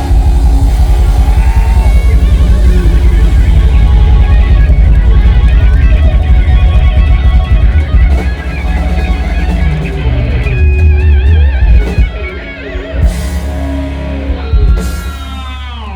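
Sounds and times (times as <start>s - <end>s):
electric guitar with vibrato: 0.0s - 15.9s
heavy bass and drums: 0.0s - 15.9s.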